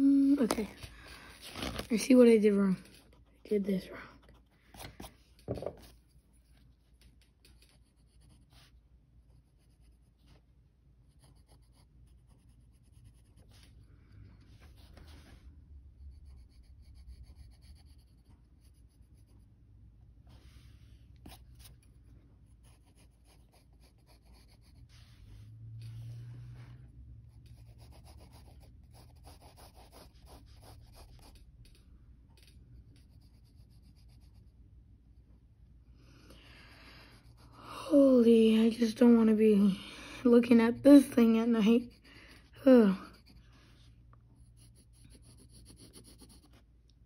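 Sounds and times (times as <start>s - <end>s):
pencil scratching on paper: 0.4s - 19.6s, 20.3s - 31.8s, 32.4s - 34.6s, 37.0s - 39.6s, 40.3s - 46.7s.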